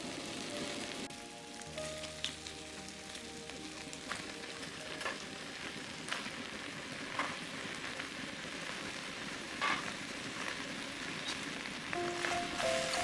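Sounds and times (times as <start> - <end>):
stir-fry sizzling in a pan: 0.0 - 13.0.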